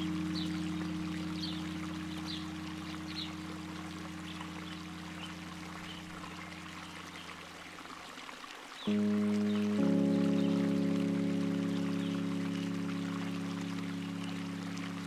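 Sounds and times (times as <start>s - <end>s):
ambient synth chord: 0.0s - 7.4s, 8.9s - 15.0s
flowing water: 0.0s - 15.0s.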